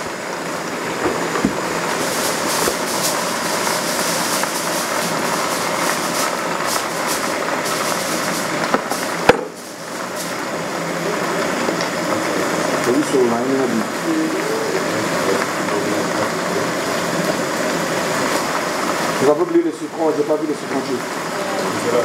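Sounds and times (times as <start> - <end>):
spinach sizzling in a frying pan: 0.0 - 22.0.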